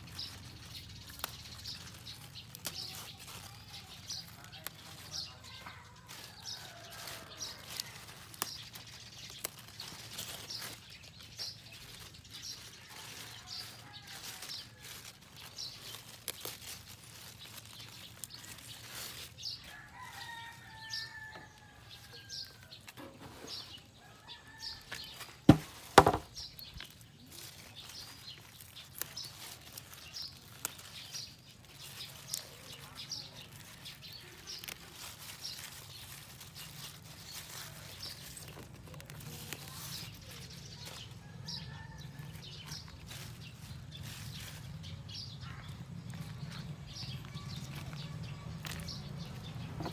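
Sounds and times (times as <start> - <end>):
lettuce leaves rustling and snapping: 0.0 - 49.9.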